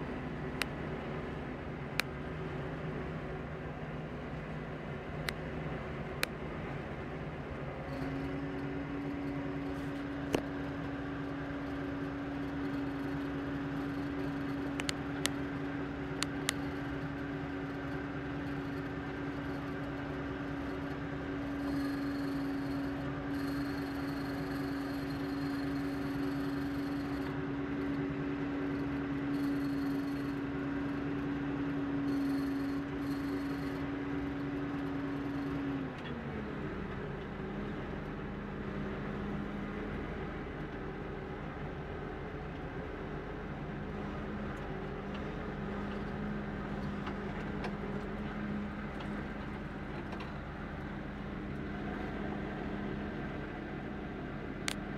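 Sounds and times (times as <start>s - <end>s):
forage harvester running: 0.0s - 54.9s
tractor engine: 0.0s - 54.9s.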